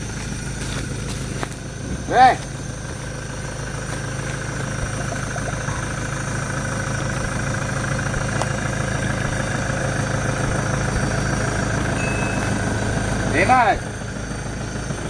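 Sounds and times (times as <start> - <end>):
vehicle engine running at low revs: 0.0 - 15.0.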